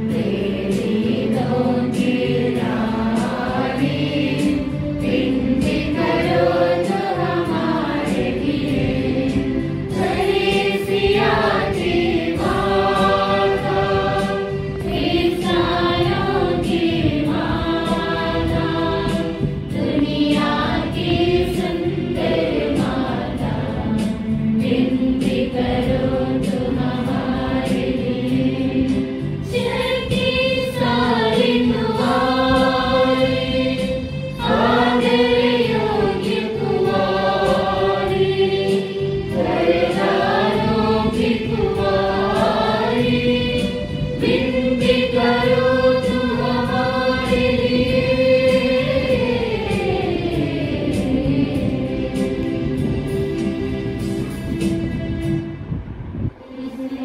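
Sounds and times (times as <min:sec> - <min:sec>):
group singing a hymn: 0:00.0 - 0:55.0, 0:56.4 - 0:57.0.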